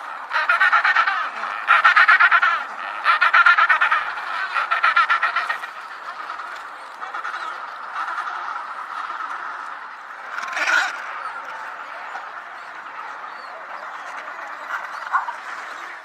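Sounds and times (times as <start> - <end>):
penguins calling: 0.0 - 16.0.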